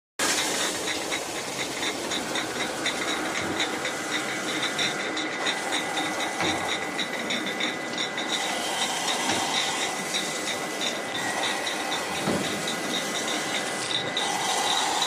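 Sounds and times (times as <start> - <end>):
glass bottles clinking: 0.2 - 15.0
water spray and machinery hiss: 0.2 - 15.0.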